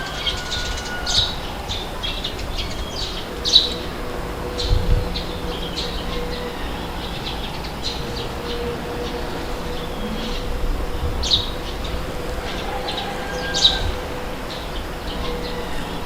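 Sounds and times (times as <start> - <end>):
birds chirping and calling: 0.0 - 16.0
wind blowing: 0.0 - 16.0.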